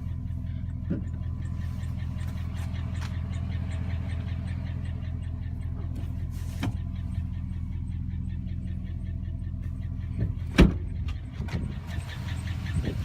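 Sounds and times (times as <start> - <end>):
engine idling with ticking: 0.0 - 13.0.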